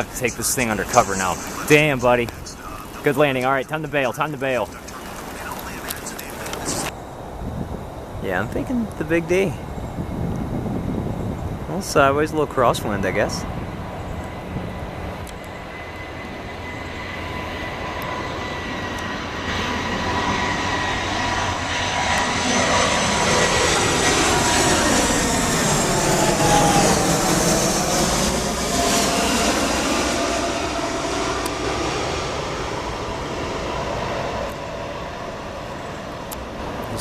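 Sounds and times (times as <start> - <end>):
jet engines whining: 0.0 - 37.0.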